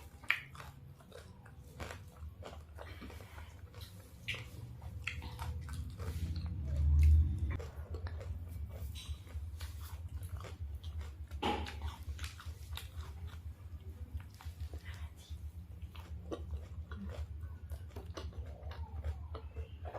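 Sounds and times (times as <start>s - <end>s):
chewing crispy fried chicken: 0.0s - 19.9s.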